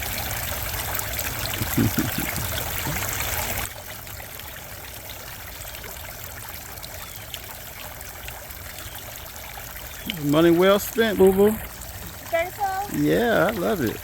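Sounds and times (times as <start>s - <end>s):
fountain water trickling and splashing: 0.0s - 14.0s.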